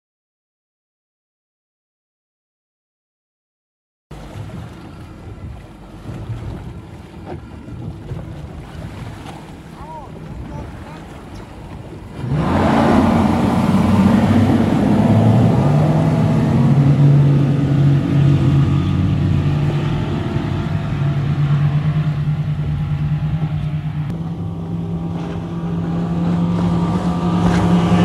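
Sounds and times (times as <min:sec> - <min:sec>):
outboard motors throttling up: 0:04.1 - 0:28.0.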